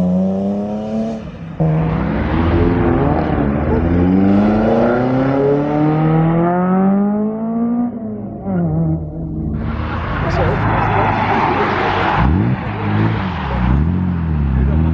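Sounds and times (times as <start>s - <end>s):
sports car engine accelerating: 0.0s - 14.9s.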